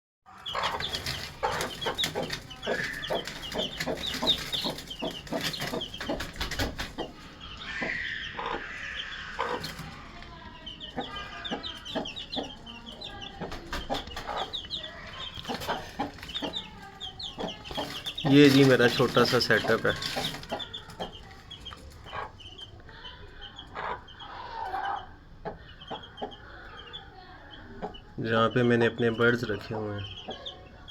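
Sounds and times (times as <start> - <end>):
birds chirping: 0.3 - 30.9
birds clucking: 0.3 - 30.9.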